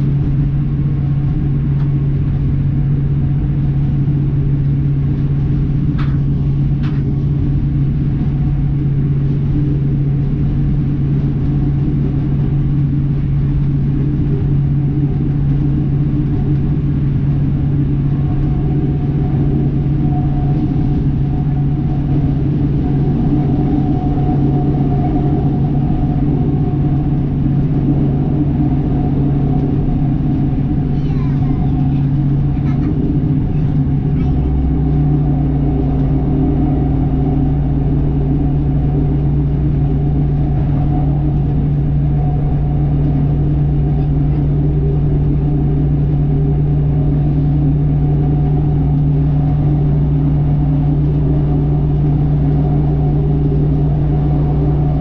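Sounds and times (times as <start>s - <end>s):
deeper hum: 0.0s - 55.0s
train engine drone: 0.0s - 55.0s
wheels rumbling on track: 0.0s - 55.0s.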